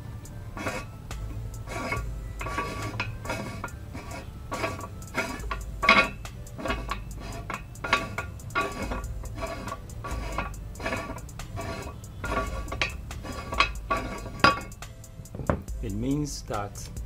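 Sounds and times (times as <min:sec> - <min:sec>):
metal ring grating on threads: 0:00.0 - 0:16.7.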